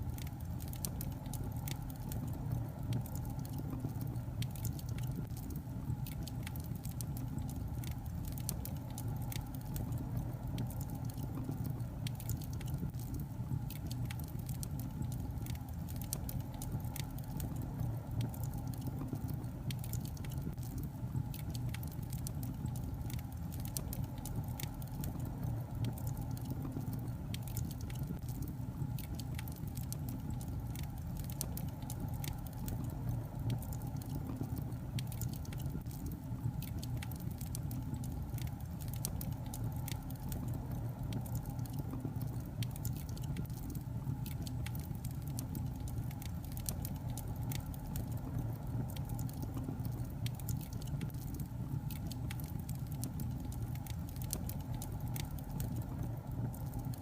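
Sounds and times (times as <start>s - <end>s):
burning logs crackling: 0.0s - 57.0s
fire low rumble: 0.0s - 57.0s.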